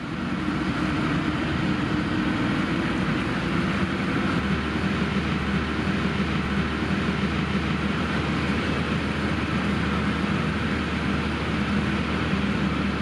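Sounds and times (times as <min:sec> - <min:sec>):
car engine droning at cruise: 0:00.0 - 0:13.0
tyres hissing on wet asphalt: 0:00.0 - 0:13.0.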